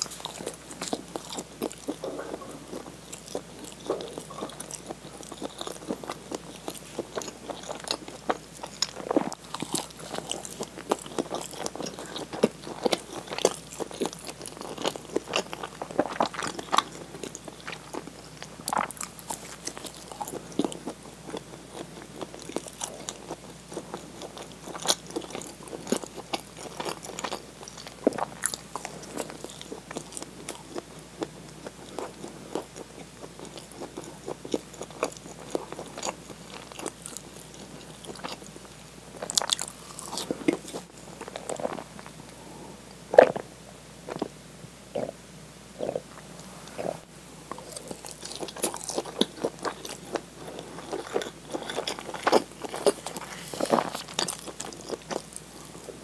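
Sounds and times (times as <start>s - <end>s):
crunchy biting and chewing: 0.0s - 42.4s, 46.7s - 56.0s.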